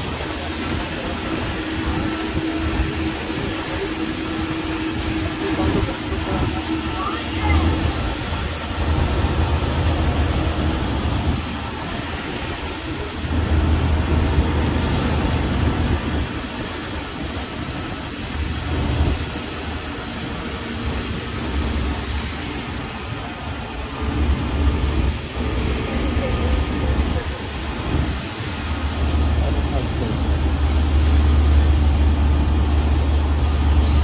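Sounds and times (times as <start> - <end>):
tram vehicle rumble: 0.0 - 34.0.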